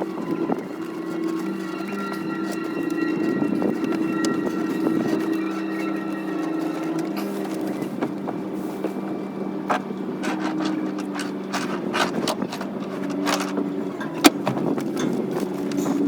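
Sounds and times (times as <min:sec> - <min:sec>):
cable scraping and knocking: 0:00.0 - 0:08.2, 0:09.6 - 0:16.0
steady mechanical hum: 0:00.0 - 0:16.0.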